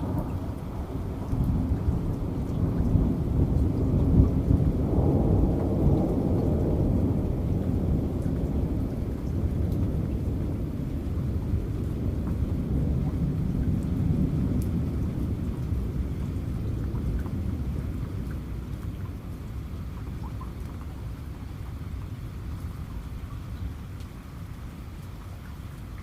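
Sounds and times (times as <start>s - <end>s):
low rumble of thunder: 0.0s - 26.0s
steady rain: 0.0s - 26.0s.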